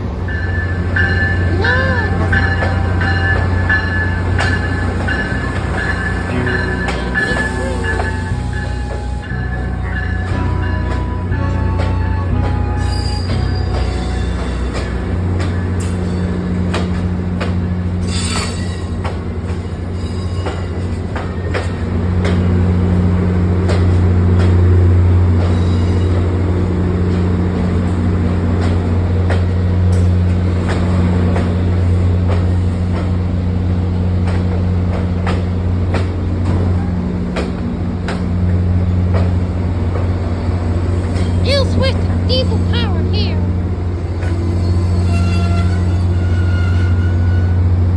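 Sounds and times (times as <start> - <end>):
train wheels clacking over track: 0.0 - 43.3
low electric hum of train: 0.0 - 47.9.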